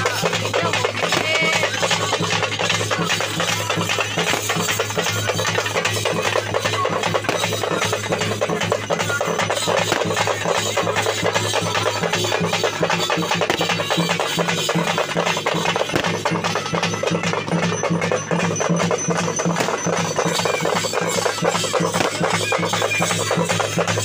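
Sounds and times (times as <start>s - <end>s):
music with drumming and percussion: 0.0s - 24.0s.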